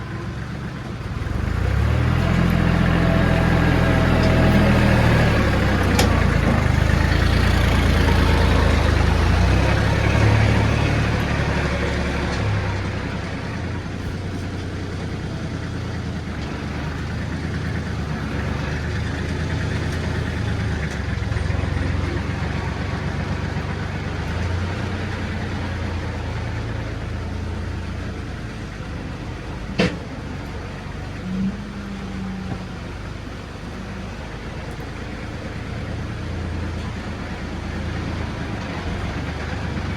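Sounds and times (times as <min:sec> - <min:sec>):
farm vehicle engine running: 0:00.0 - 0:39.9.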